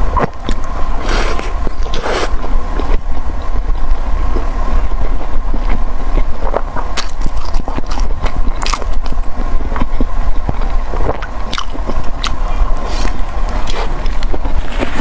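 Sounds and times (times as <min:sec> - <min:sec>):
low rumble: 0:00.0 - 0:15.0
food being chewed: 0:00.2 - 0:03.2, 0:03.9 - 0:15.0.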